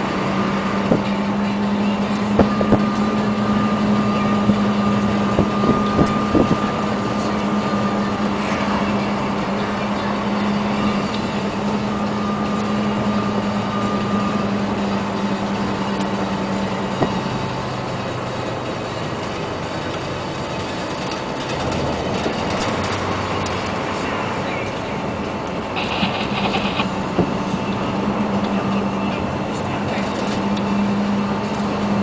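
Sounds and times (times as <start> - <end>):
diesel engine droning: 0.0 - 32.0
road noise: 0.0 - 32.0.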